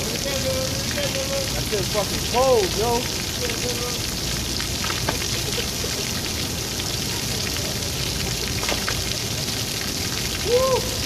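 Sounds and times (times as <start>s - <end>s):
falling water hissing: 0.0s - 11.0s.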